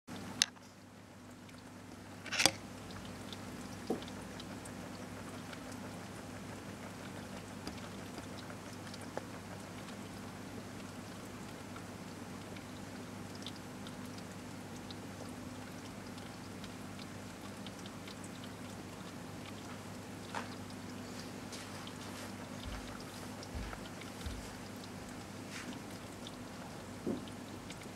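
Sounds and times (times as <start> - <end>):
equipment hum and hiss: 0.1 - 27.9.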